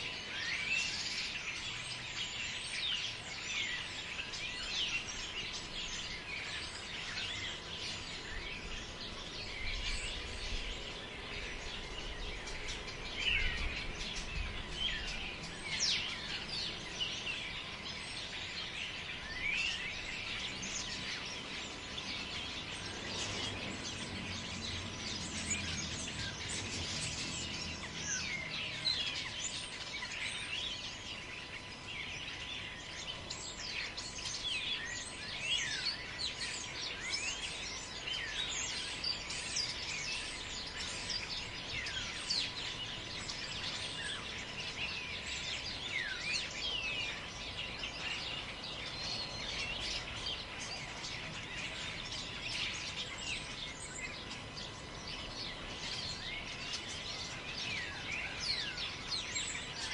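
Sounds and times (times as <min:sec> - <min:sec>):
birds chirping and calling: 0:00.0 - 0:59.9
low rumble of wind: 0:00.0 - 0:59.9.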